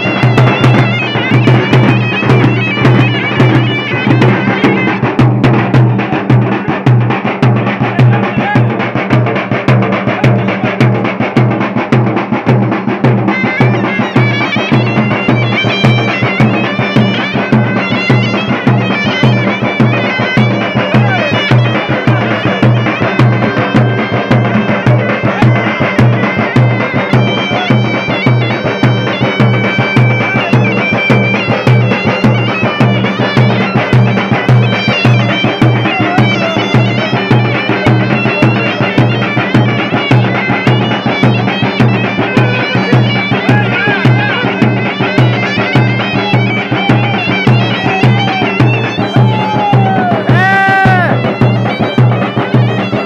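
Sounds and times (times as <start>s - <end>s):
drums beaten with sticks: 0.0s - 53.0s
shawm playing reedy melody: 0.0s - 53.0s.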